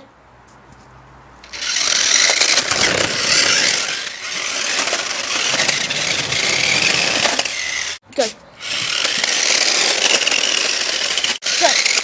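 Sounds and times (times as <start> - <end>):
rc car motor whining: 1.5 - 8.0, 8.6 - 12.0.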